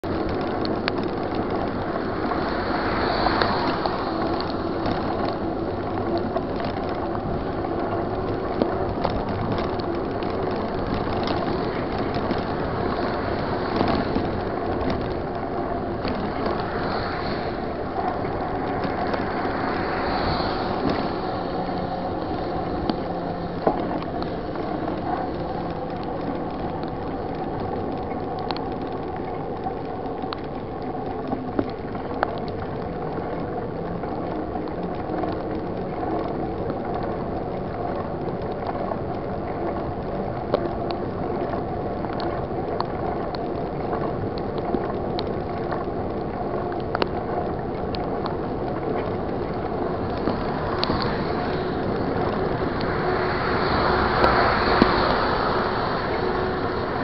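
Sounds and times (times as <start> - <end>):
bike clicks and rattles: 0.0 - 20.0, 20.6 - 57.0
tyre spray and rain: 0.0 - 57.0.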